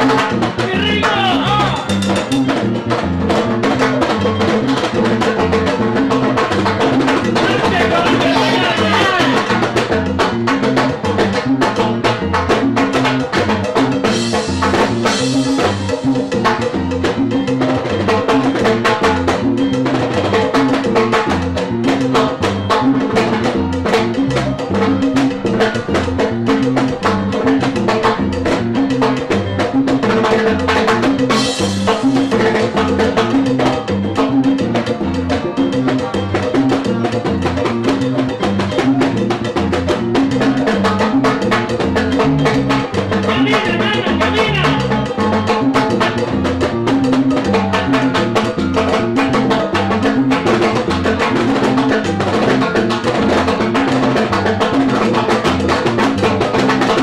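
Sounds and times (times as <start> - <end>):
latin dance band playing: 0.0 - 57.0
repeating bass line: 0.0 - 57.0.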